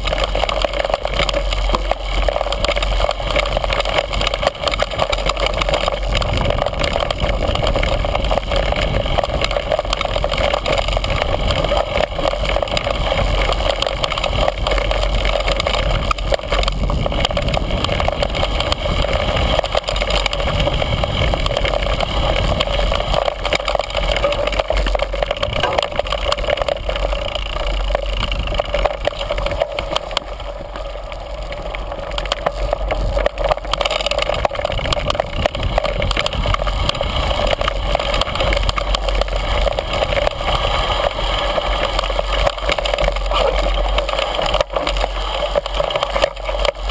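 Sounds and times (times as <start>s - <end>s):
bike rattling and tyre noise: 0.0s - 46.9s
steady low rumble: 0.0s - 46.9s.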